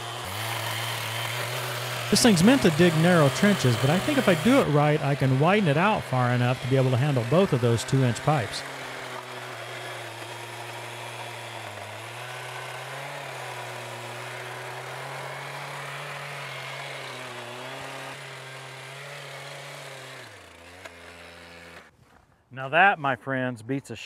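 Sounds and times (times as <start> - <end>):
power shovel motor running: 0.0 - 21.9.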